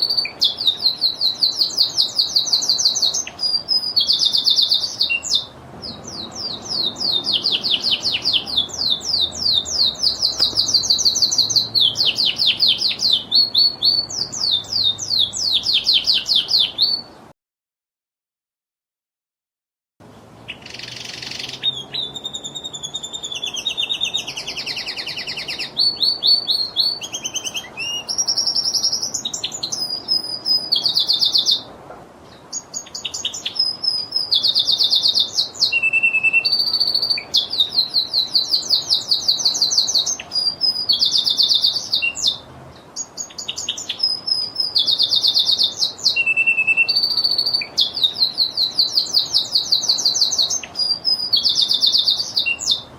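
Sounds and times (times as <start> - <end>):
canary singing trills: 0.0 - 17.3, 20.4 - 31.7, 32.3 - 52.9.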